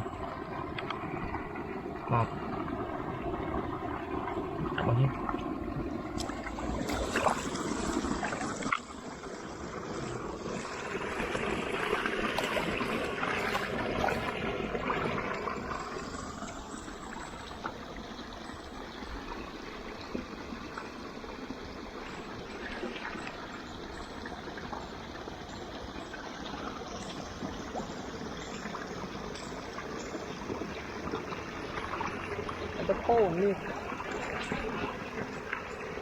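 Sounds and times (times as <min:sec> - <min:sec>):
shallow water trickling: 0:00.0 - 0:36.0.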